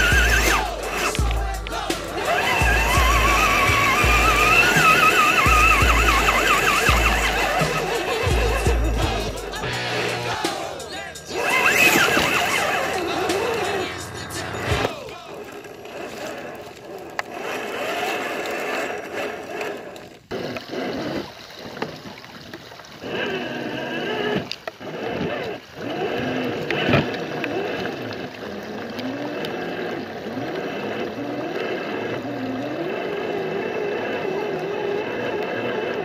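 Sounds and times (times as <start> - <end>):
toy truck motor whining: 0.0 - 36.0.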